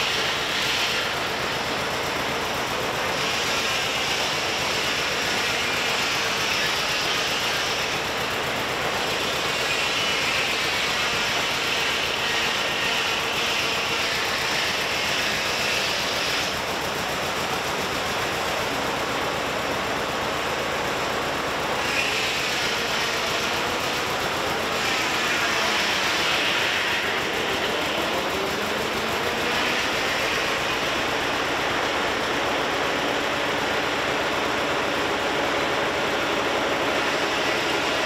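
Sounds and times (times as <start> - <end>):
saw blade whining through log: 0.0 - 19.3, 21.5 - 38.0
circular sawmill running: 0.0 - 38.0.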